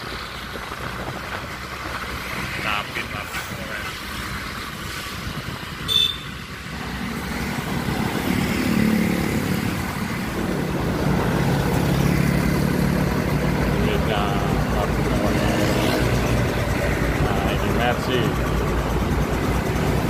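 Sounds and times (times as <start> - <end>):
diesel truck passing: 0.0 - 20.0
road traffic noise: 0.0 - 20.0.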